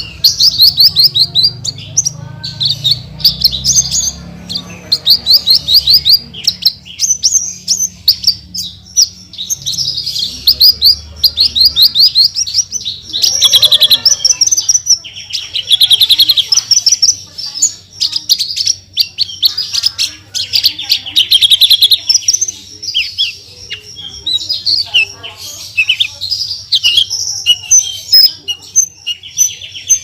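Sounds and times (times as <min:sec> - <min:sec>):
bird singing rapid chirps and trills: 0:00.0 - 0:30.0.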